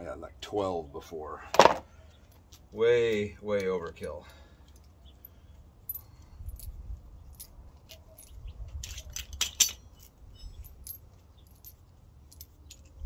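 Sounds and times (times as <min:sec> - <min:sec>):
metal tools clinking on concrete: 0:01.6 - 0:13.0.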